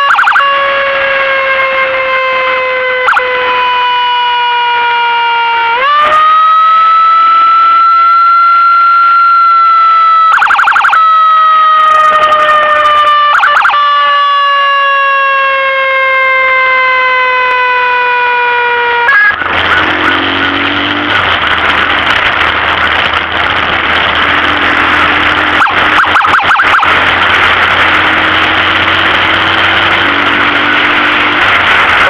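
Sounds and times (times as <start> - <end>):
ambulance siren: 0.0 - 20.6, 23.9 - 32.0
vehicle driving noise: 0.0 - 32.0.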